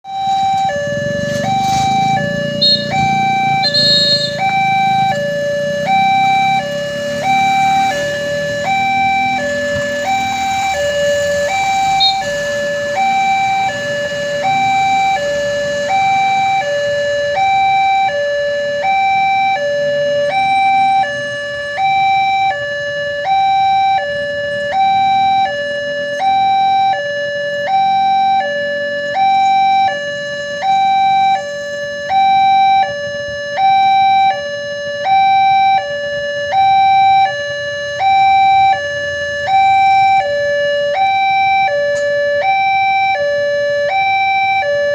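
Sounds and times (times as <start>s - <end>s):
level crossing two-tone alarm: 0.0s - 44.9s.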